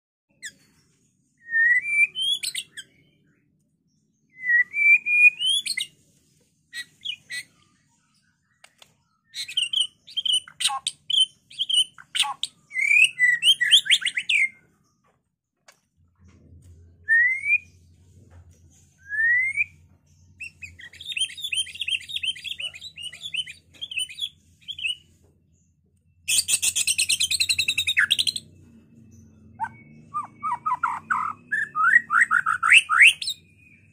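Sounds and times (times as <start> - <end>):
songbird singing: 0.3 - 33.9.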